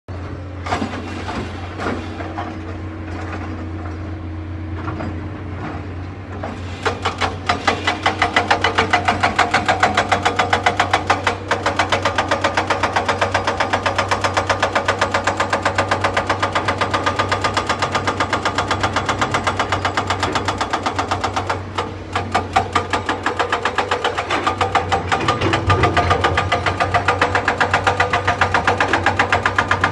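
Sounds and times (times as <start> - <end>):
excavator diesel engine clattering: 0.1 - 29.9.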